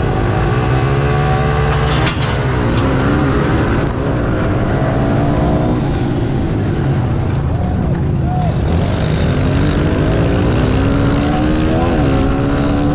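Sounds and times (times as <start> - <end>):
pit bike engines revving: 0.0 - 12.9.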